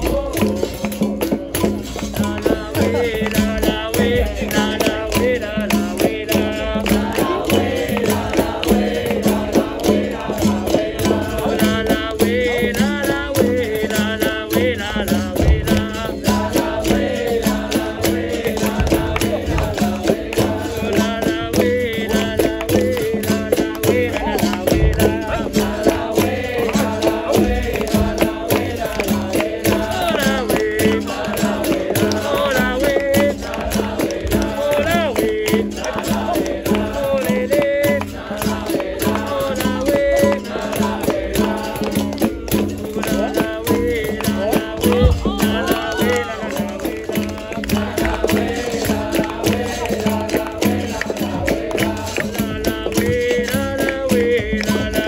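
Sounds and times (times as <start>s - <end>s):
berimbaus and percussion: 0.0s - 55.0s
voices singing: 0.0s - 55.0s.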